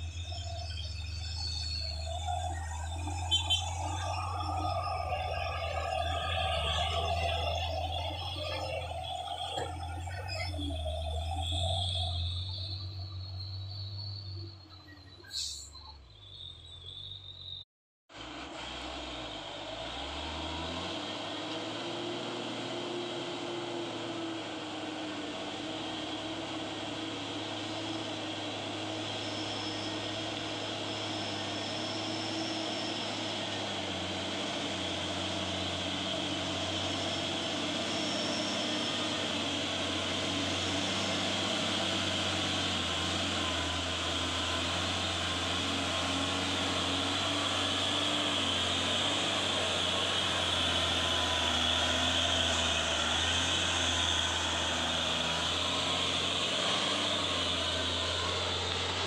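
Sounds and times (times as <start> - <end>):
diesel truck engine climbing: 0.0 - 59.0.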